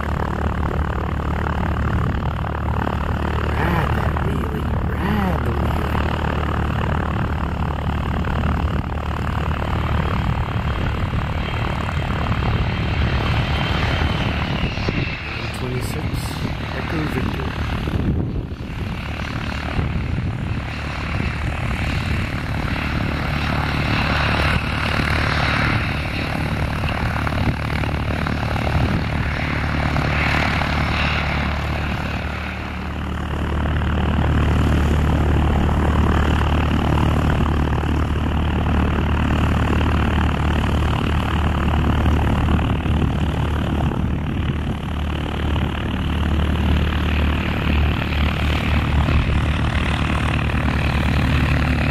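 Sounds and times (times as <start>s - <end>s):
jet engines whooshing: 0.0s - 51.9s
propeller plane engine drone: 0.0s - 51.9s.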